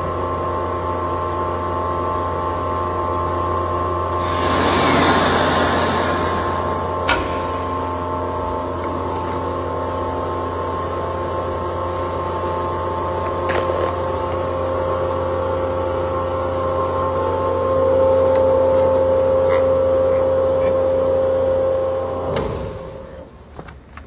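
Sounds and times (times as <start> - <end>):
vacuum pump humming drone: 0.0 - 24.0.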